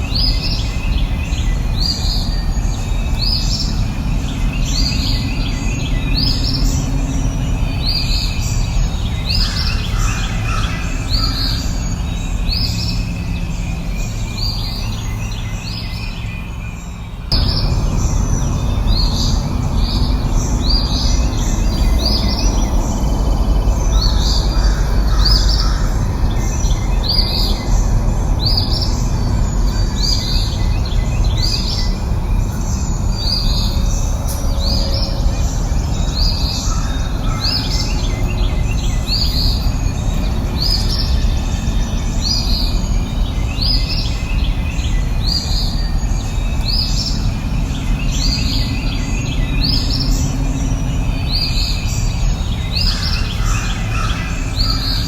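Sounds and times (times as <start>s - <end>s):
low rushing background noise: 0.0s - 55.0s.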